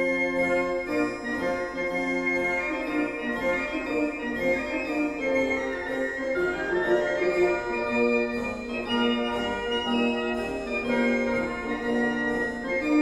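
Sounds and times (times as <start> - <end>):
organ-like keyboard chords: 0.0 - 13.0.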